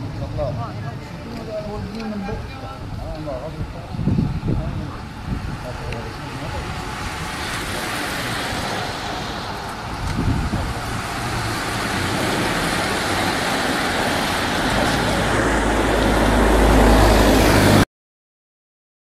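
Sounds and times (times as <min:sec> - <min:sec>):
car engine approaching: 0:00.0 - 0:17.8
racing bicycles road noise: 0:00.0 - 0:17.8.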